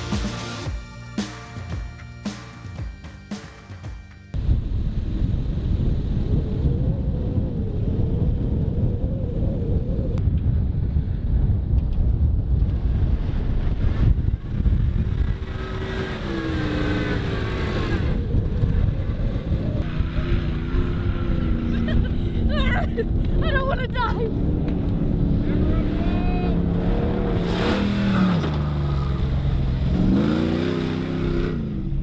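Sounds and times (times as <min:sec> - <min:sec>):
vehicle engine rumble: 0:04.3 - 0:32.0.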